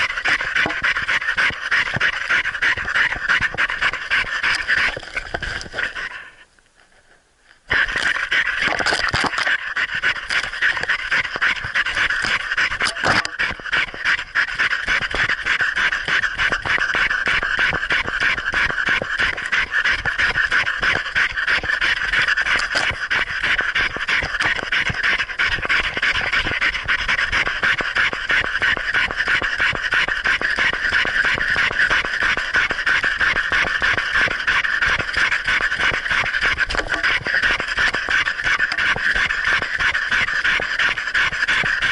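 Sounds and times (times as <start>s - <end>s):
dog panting rapidly: 0.0s - 6.4s, 7.7s - 41.9s.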